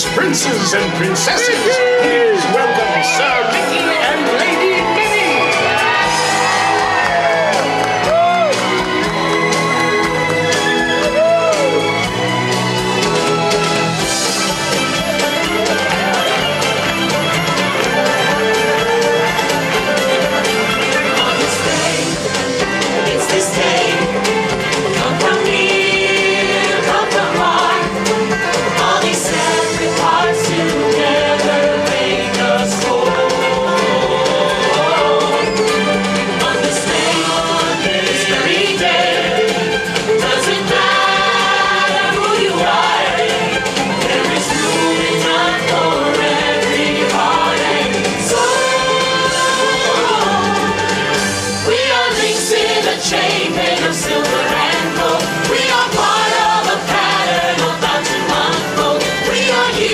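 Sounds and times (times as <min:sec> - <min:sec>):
choir singing over a beat: 0:00.0 - 0:59.9
show music backing track: 0:00.0 - 0:59.9.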